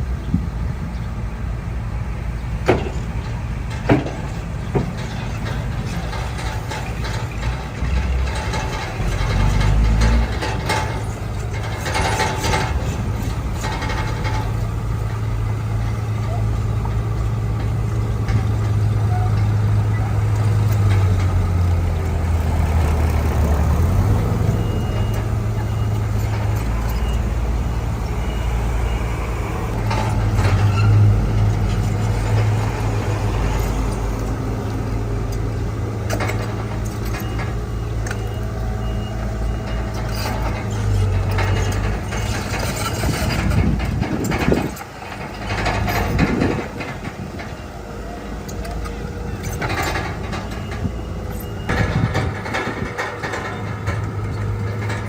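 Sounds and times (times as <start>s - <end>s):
heavy diesel engine rumbling: 0.0s - 55.0s
metal clanking: 2.6s - 47.8s, 48.4s - 55.0s.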